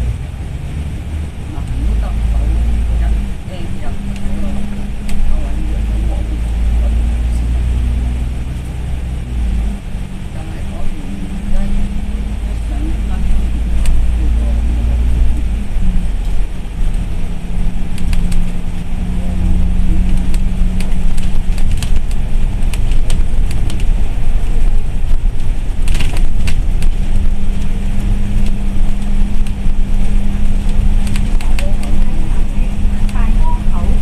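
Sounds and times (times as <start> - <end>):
bus engine and road rumble: 0.0 - 34.0
low hum: 0.0 - 34.0
bodywork rattles and clicks: 1.4 - 34.0.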